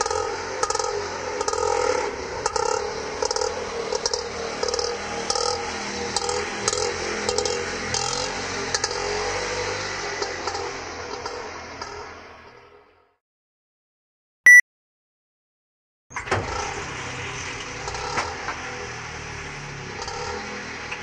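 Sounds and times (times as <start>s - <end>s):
auto rickshaw engine humming: 0.0s - 13.1s, 16.1s - 21.0s.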